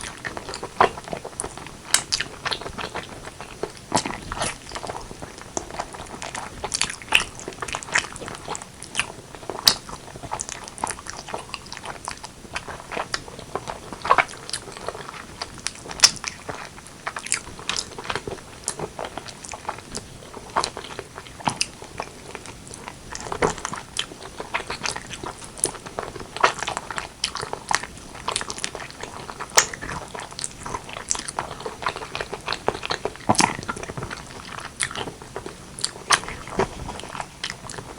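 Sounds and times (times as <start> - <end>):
chewing and biting: 0.0 - 37.9.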